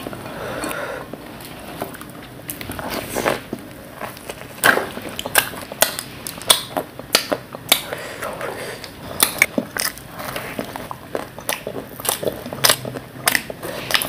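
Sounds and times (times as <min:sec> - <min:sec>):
biting and chewing: 0:01.4 - 0:08.0, 0:08.7 - 0:14.0.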